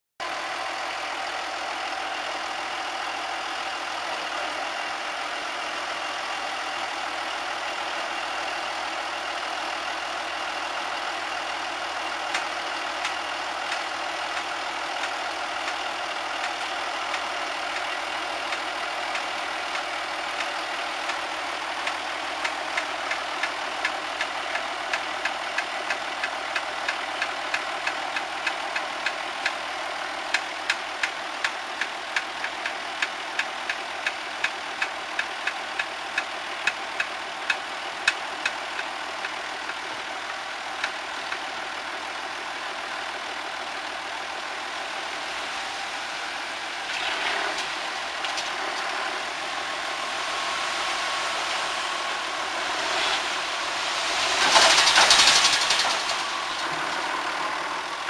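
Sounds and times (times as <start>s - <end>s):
tractor engine running: 0.2s - 58.0s.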